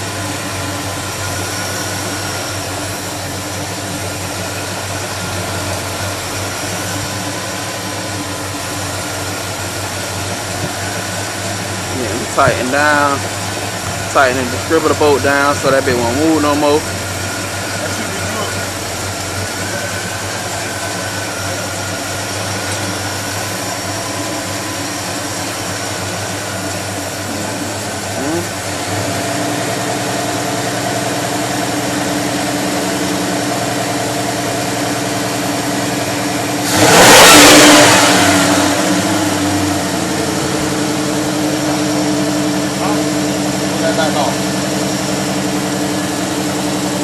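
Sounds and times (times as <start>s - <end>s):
car engine idling: 0.0s - 47.0s
engine revving: 0.0s - 47.0s.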